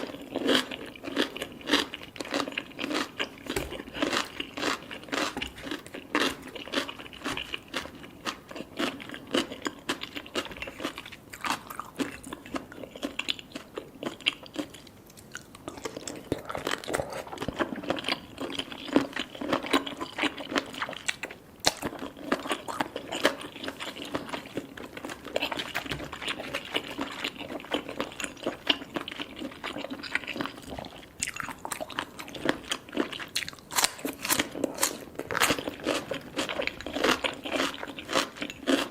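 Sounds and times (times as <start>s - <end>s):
crunchy chewing mouth sounds: 0.0s - 38.9s.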